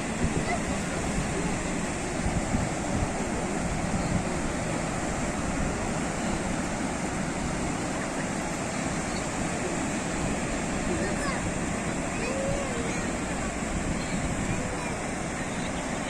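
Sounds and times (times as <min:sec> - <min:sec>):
waves breaking on shore: 0:00.0 - 0:16.0.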